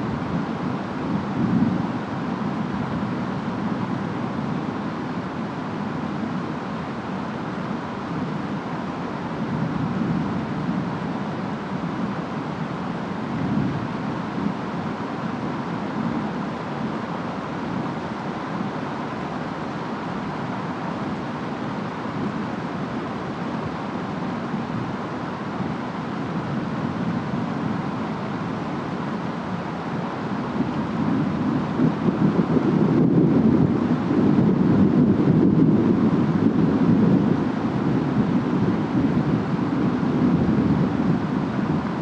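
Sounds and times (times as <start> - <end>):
rain: 0.0 - 42.0
wind: 0.0 - 42.0.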